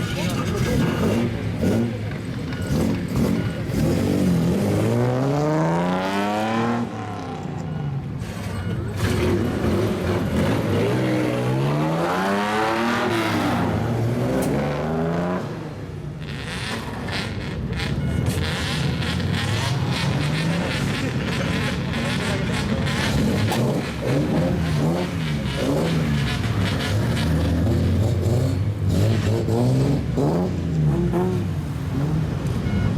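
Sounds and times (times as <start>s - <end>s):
loud car exhausts revving: 0.0s - 7.6s, 8.9s - 32.9s.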